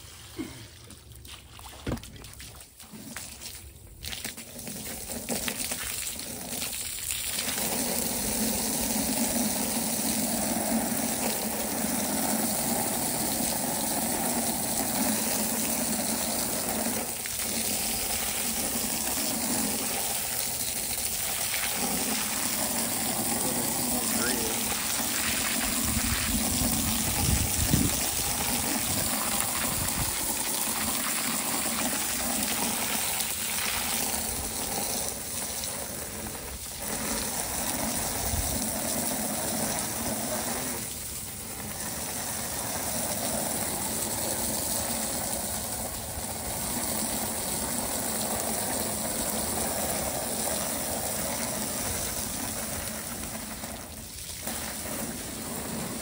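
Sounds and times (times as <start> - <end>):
garden hose water jet spraying: 0.0 - 56.0
water splashing on concrete: 0.0 - 56.0.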